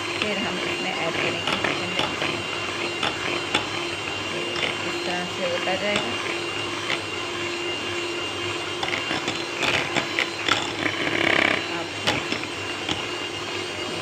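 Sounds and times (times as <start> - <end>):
electric hand mixer running: 0.0 - 14.0.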